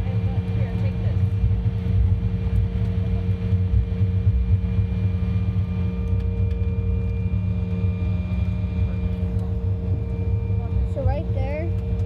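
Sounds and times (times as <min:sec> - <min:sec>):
faint steady whine: 0:00.0 - 0:12.0
wheels and engines rumbling: 0:00.0 - 0:12.0.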